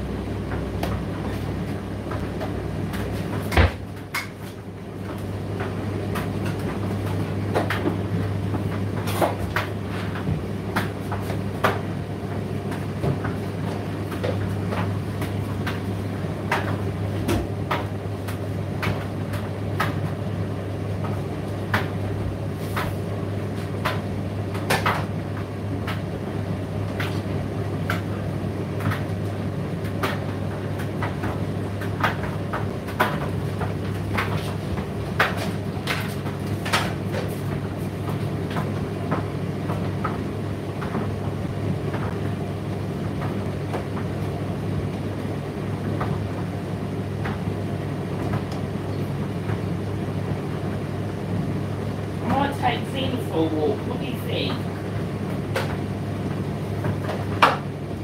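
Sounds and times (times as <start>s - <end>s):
tumble dryer humming: 0.0s - 58.0s.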